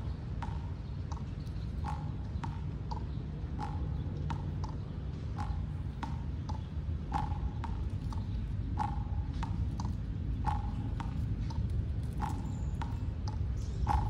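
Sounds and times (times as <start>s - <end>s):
steady low rumble: 1.8s - 14.0s.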